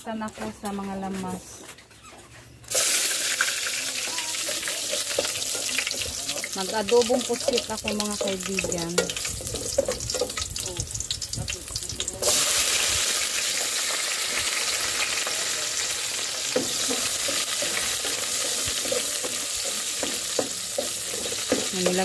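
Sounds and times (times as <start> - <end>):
onions sizzling in oil: 2.7 - 22.0.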